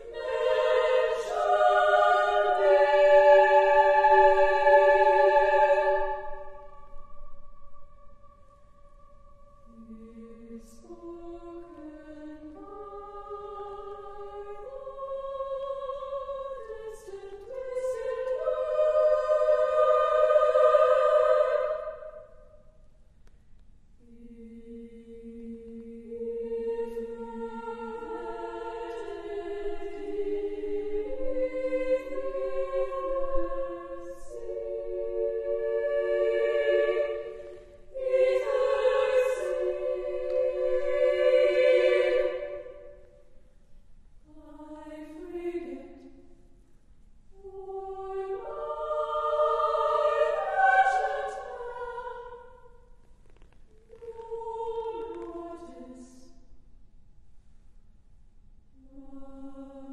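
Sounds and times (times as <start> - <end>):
women's choir singing unaccompanied: 0.0 - 22.6, 24.0 - 43.3, 44.3 - 46.3, 47.3 - 53.0, 53.8 - 56.3, 58.8 - 59.9.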